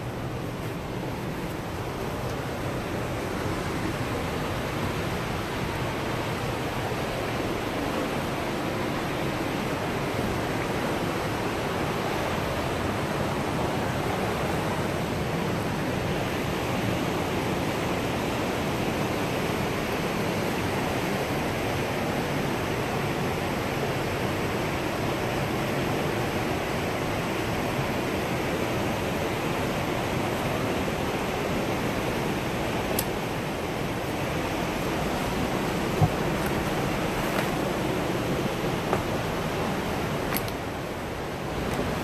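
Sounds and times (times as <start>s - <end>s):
river rapids rushing over rocks: 0.0s - 42.0s.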